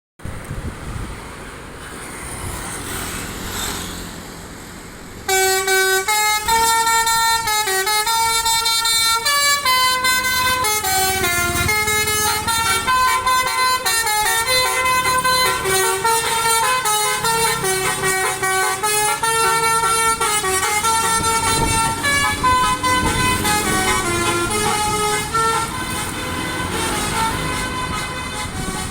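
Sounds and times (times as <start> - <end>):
traffic noise: 0.2 - 28.9
wind: 0.2 - 28.9
multi-tone bus horn playing a tune: 5.3 - 28.9.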